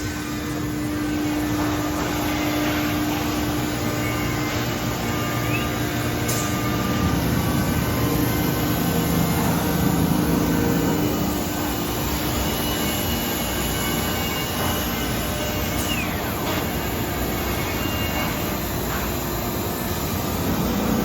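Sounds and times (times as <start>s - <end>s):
cnc router rushing noise: 0.0s - 21.0s
faint steady machine whines: 0.0s - 21.0s.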